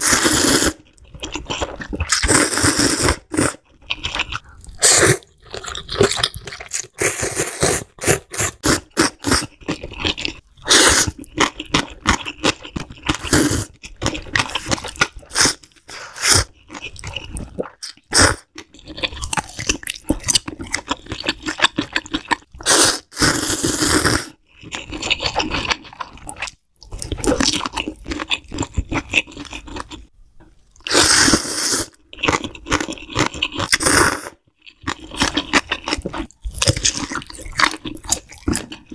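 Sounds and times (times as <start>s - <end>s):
wet chewing and smacking: 0.8s - 2.3s, 3.2s - 7.0s, 7.9s - 22.6s, 24.4s - 30.1s, 32.0s - 38.9s.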